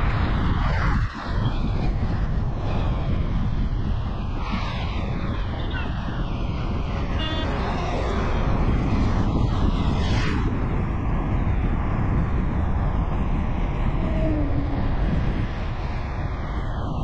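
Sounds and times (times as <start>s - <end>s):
vehicle road noise rumble: 0.0s - 17.0s.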